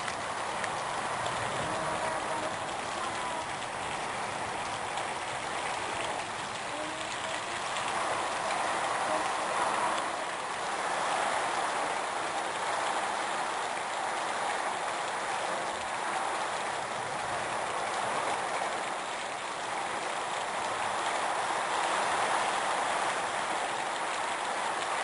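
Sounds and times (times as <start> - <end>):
heavy rain in strong wind: 0.0 - 25.0.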